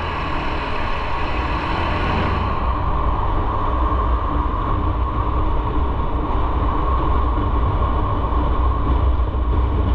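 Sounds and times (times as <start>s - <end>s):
motorcycle engine rumble: 0.0s - 9.9s
road and wind noise: 0.0s - 9.9s.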